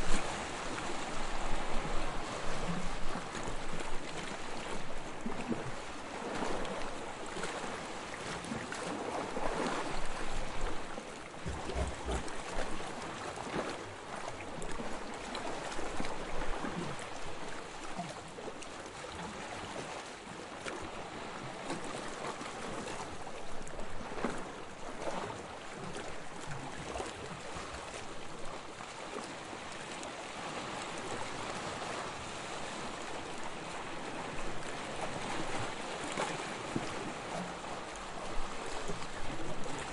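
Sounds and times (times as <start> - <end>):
waves lapping on sandy shore: 0.0 - 39.9.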